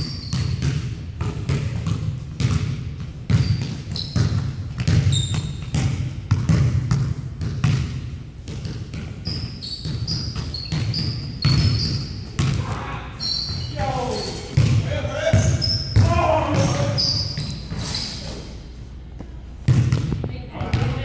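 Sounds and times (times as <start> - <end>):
basketball bouncing on wood floor: 0.0 - 13.7, 14.6 - 17.8, 19.7 - 21.0
sneakers squeaking on floor: 0.0 - 18.6.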